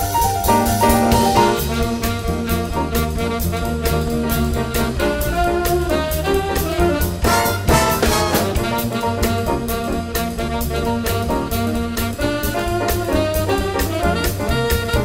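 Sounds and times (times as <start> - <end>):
brass section playing: 0.0 - 15.0
steady drum beat: 0.0 - 15.0
walking bass: 0.0 - 15.0.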